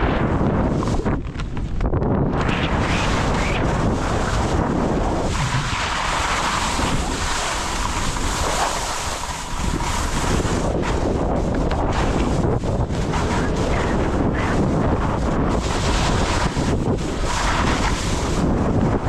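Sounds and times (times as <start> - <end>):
wind buffeting microphone: 0.0 - 19.0
skis sliding through slush: 2.4 - 19.0.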